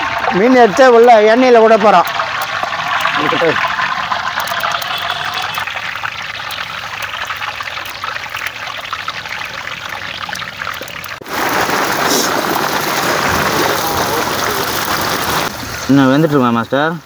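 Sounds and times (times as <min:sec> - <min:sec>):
fish sizzling in hot oil: 0:00.0 - 0:16.5.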